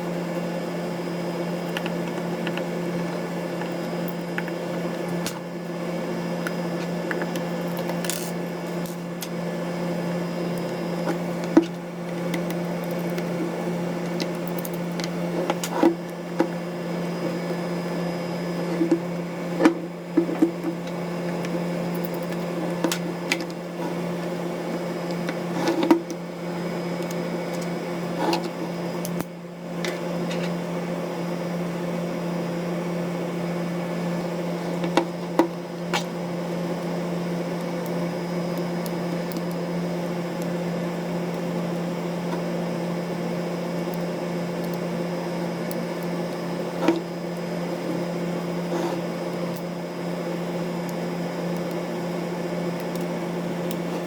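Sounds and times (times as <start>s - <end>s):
low electrical hum: 0.0s - 54.0s.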